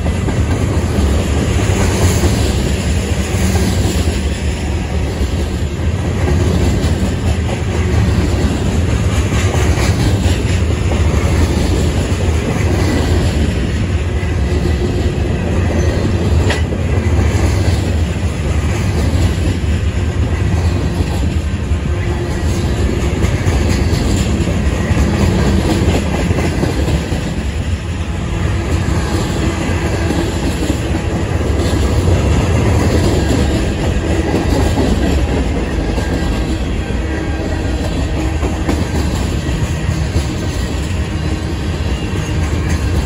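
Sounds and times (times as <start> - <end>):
clickety-clack over rail joints: 0.0 - 43.0
train wheels rumbling on rails: 0.0 - 43.0.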